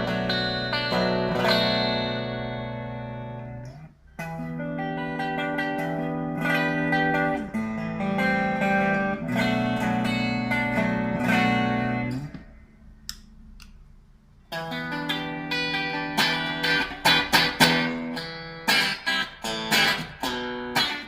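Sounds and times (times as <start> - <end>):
electric guitar chords: 0.0 - 12.7, 14.5 - 21.0.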